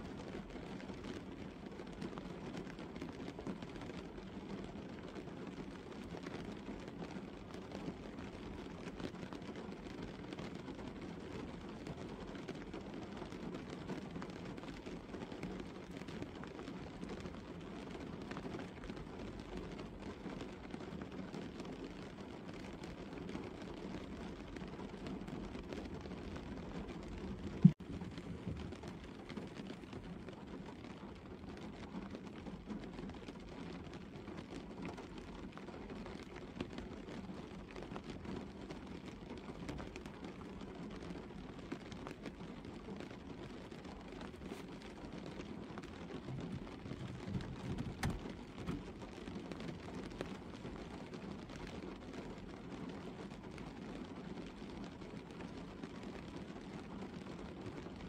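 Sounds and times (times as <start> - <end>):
rain pattering on car roof: 0.0 - 58.0.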